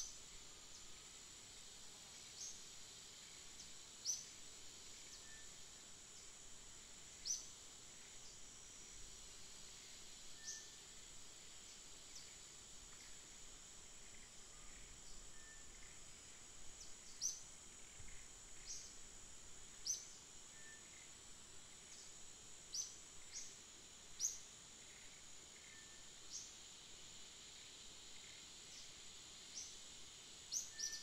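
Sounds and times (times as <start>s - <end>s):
high-pitched insect drone: 0.0s - 31.0s.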